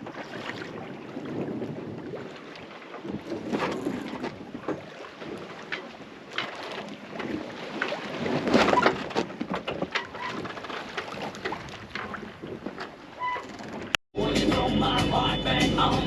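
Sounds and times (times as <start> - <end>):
sea water splashing and rushing: 0.0 - 14.0
wind buffeting microphone: 0.0 - 14.0.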